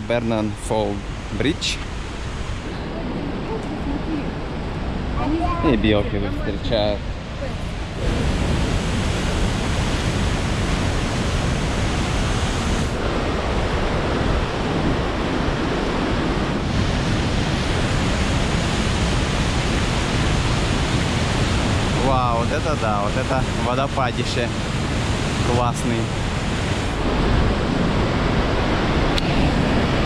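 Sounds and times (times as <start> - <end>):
roar of rushing water: 0.0 - 30.0.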